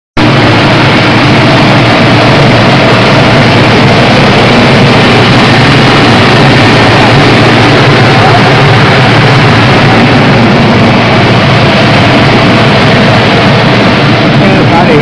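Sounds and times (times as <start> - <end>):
rice mill machine noise: 0.2 - 15.0.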